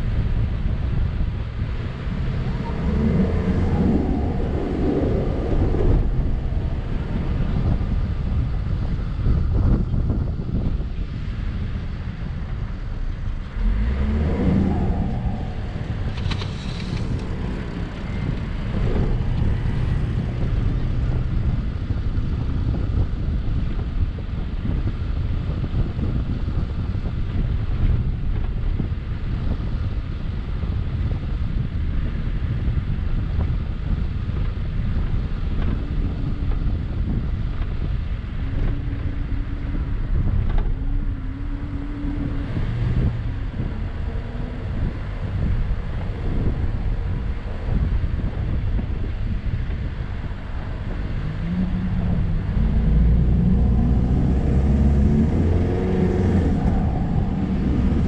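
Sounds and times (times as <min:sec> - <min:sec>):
car driving over sand: 0:00.0 - 0:58.0
wind noise on microphone: 0:00.0 - 0:58.0.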